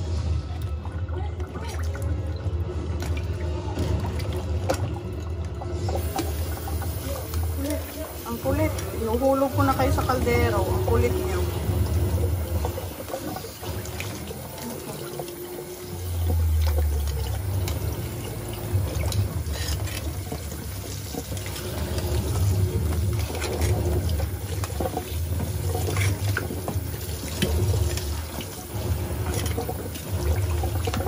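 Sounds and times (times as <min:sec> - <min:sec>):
tap water running into basin: 0:00.0 - 0:31.0.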